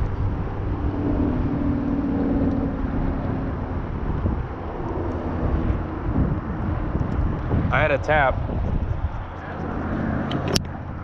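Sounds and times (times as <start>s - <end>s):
low hum: 0.0s - 11.0s
wind buffeting microphone: 0.0s - 11.0s.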